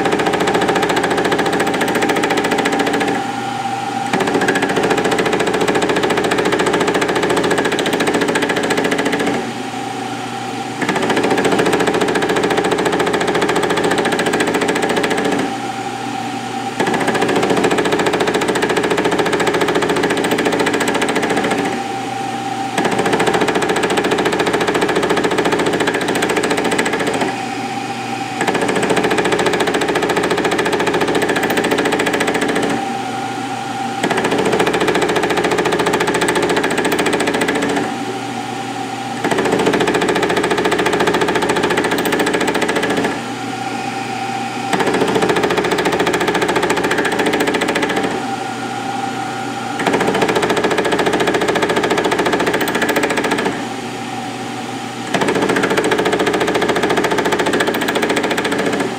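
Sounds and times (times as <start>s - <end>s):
metal cutting noise: 0.0s - 58.9s
milling machine running: 0.0s - 58.9s.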